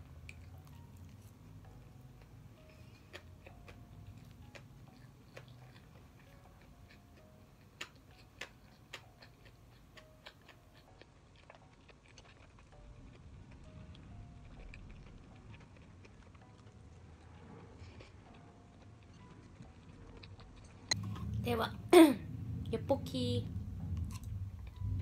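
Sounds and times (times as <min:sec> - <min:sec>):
chewing with wet smacks: 0:00.2 - 0:21.3.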